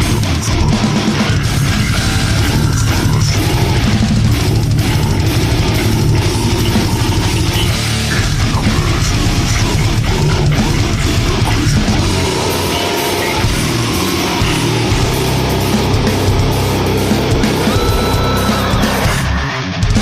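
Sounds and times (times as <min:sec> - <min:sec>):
death metal music: 0:00.0 - 0:20.0
distorted electric guitars: 0:00.0 - 0:20.0
drum kit playing: 0:00.0 - 0:20.0.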